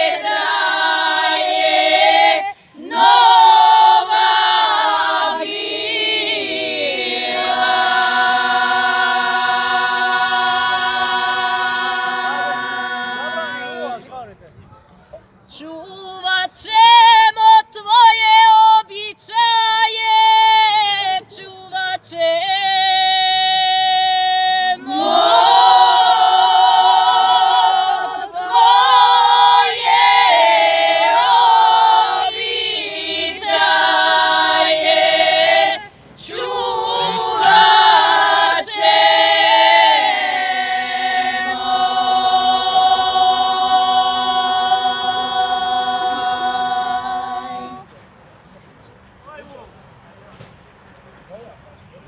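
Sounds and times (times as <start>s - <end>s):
women singing unaccompanied: 0.0s - 14.0s, 15.5s - 47.8s.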